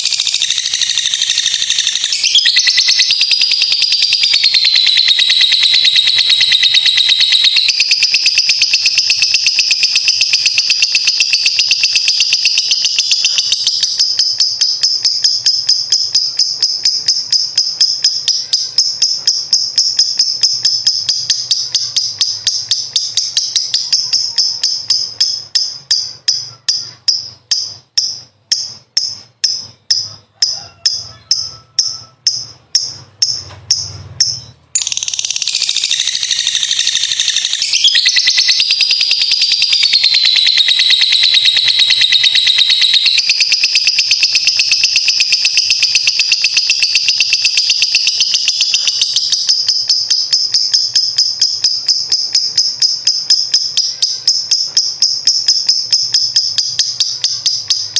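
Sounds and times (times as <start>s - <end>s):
lovebird chattering trill: 0.0s - 57.9s.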